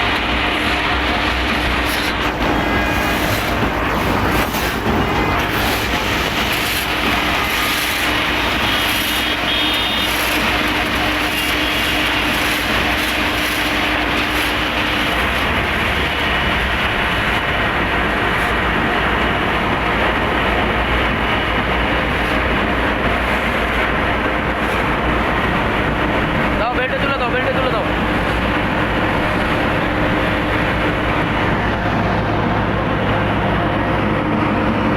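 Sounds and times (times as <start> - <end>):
road milling machine on asphalt: 0.0 - 34.9.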